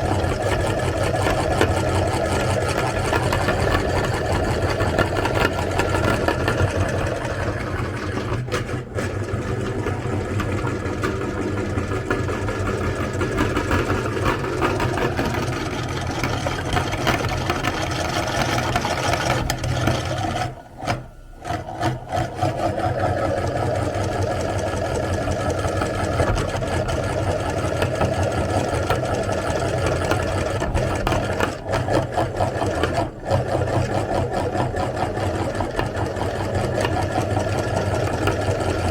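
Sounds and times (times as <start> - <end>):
electric meat grinder running: 0.0 - 38.9.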